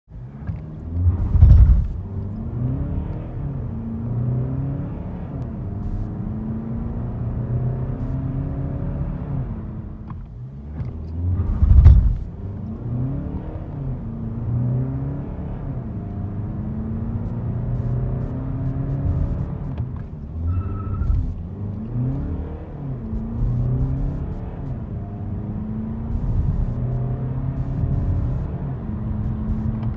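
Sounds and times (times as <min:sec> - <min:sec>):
car engine revving: 0:00.2 - 0:29.9.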